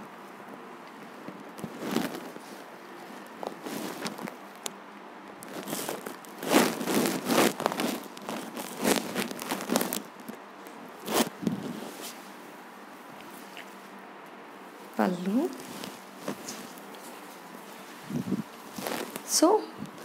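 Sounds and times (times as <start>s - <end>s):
fabric rustling and crinkling: 0.0s - 20.0s.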